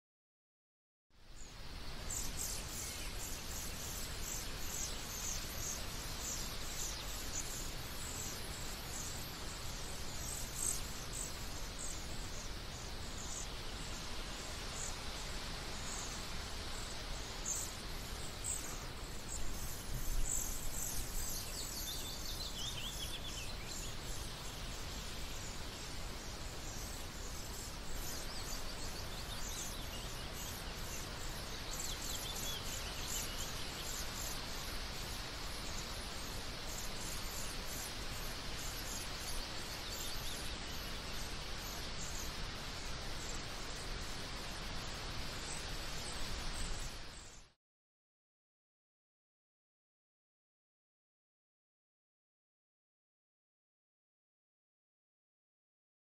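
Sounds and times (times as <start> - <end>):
songbird chirps: 1.2 - 47.6
steady background hiss: 1.2 - 47.6.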